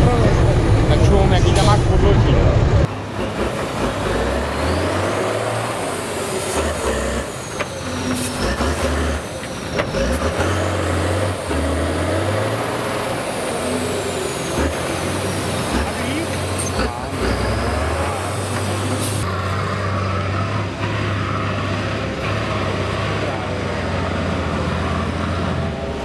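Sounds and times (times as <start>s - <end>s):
diesel engine revving hard: 0.0s - 26.0s.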